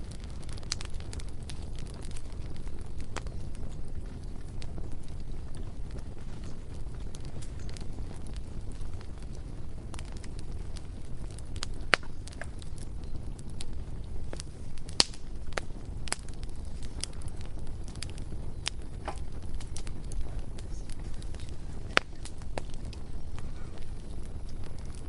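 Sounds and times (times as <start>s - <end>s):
bonfire crackling and popping: 0.0s - 25.0s
low rumble of flames: 0.0s - 25.0s.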